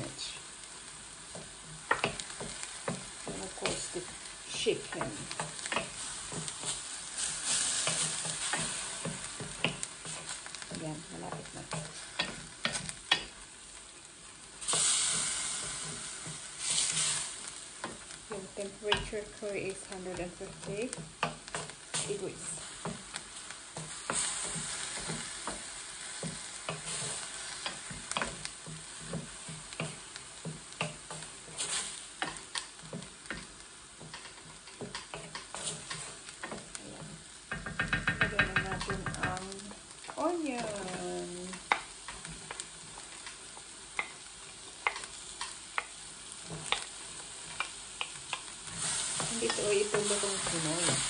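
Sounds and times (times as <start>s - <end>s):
wooden spoon scraping a pan: 0.0s - 13.7s, 14.6s - 51.0s
food sizzling in a pan: 0.0s - 51.0s.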